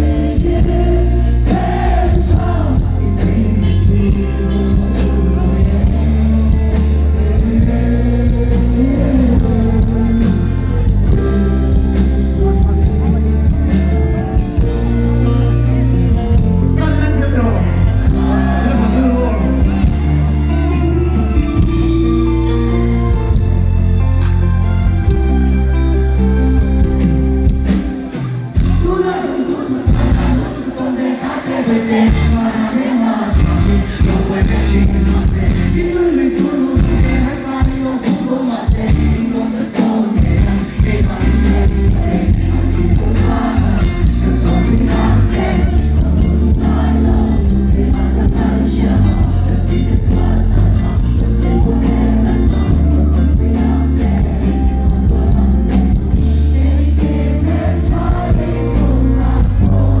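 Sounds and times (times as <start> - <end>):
man singing into a microphone: 0.0 - 11.8, 16.4 - 21.7, 28.7 - 60.0
bass line: 0.0 - 27.9, 29.9 - 30.5, 33.4 - 36.2, 36.8 - 37.6, 40.2 - 60.0
electric guitar: 0.0 - 30.7, 31.8 - 60.0
pop-rock band playing: 0.0 - 60.0.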